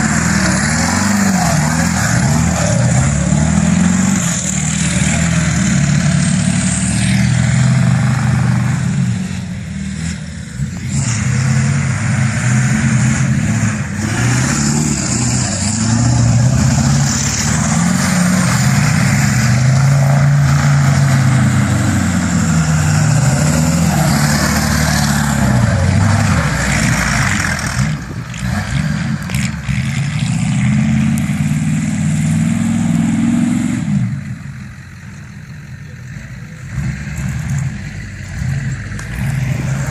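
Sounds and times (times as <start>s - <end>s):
pickup truck engine revving: 0.0s - 34.8s, 36.0s - 39.9s.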